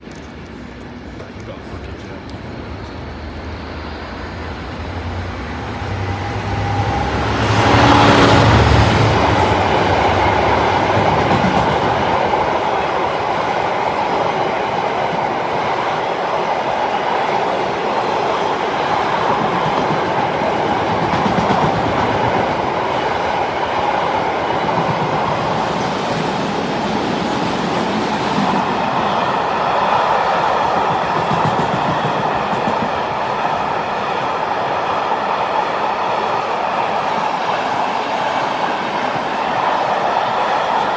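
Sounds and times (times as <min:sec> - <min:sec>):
train passing on rails: 0:00.0 - 0:40.9.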